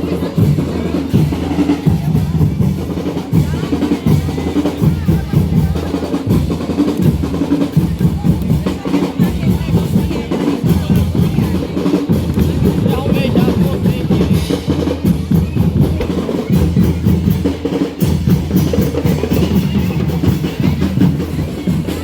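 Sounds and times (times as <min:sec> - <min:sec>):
bass drums marching beat: 0:00.0 - 0:22.0.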